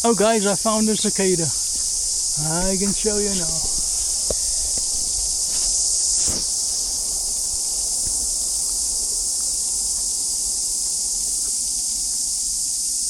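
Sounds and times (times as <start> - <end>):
cicadas buzzing in chorus: 0.0 - 13.0.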